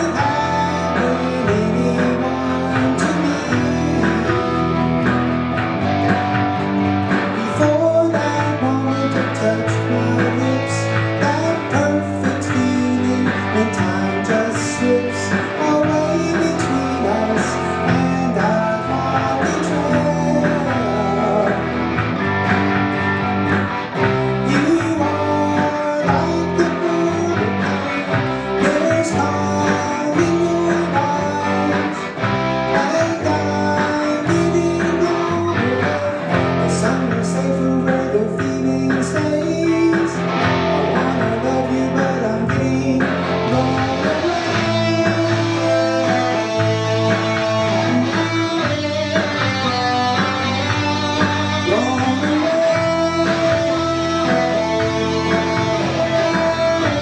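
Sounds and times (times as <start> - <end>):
bass line: 0.0 - 57.0
electric guitar: 0.0 - 57.0
rock band playing: 0.0 - 57.0.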